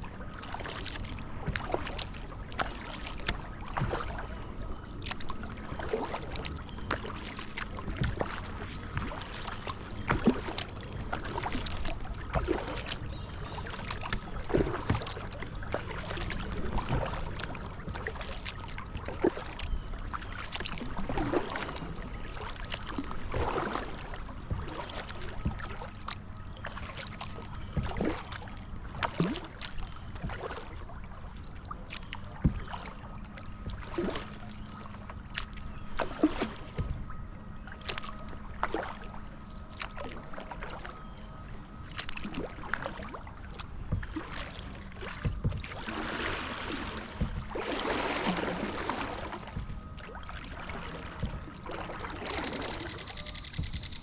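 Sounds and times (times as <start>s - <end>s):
paddle strokes splashing water: 0.0s - 54.0s
water trickling off paddle: 0.0s - 54.0s.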